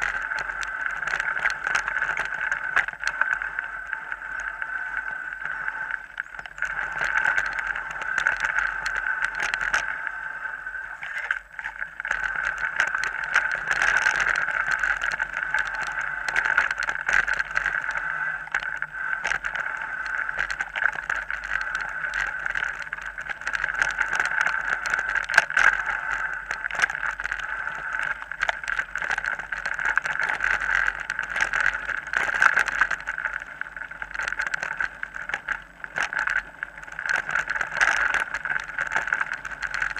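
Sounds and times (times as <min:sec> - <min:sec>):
steady buzzing hum: 0:00.0 - 0:39.9.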